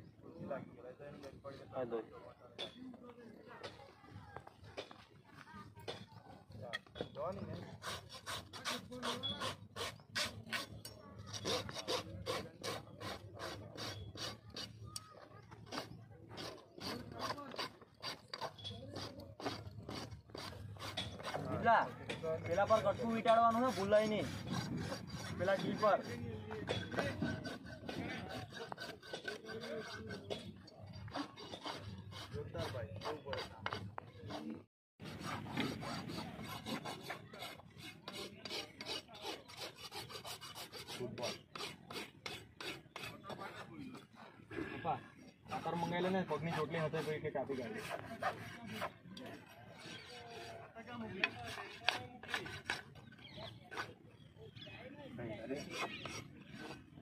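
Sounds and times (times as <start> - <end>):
knife scraping across a rasp: 6.7 - 44.3, 45.1 - 54.0, 55.4 - 57.0.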